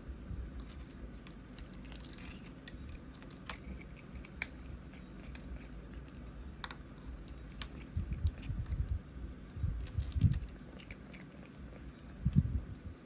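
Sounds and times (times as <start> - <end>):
kitten chewing: 0.4 - 13.0.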